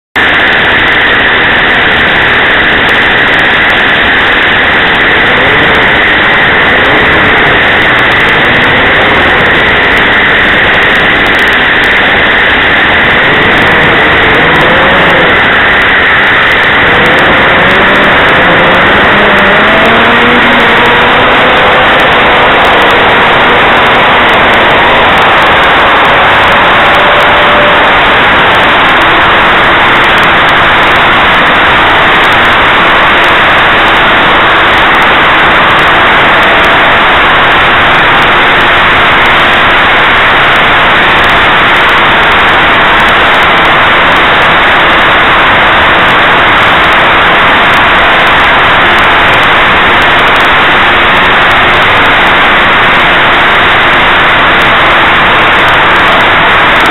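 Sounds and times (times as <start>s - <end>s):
model plane engine at high throttle: 0.0s - 56.9s
propeller and wind noise: 0.1s - 56.9s.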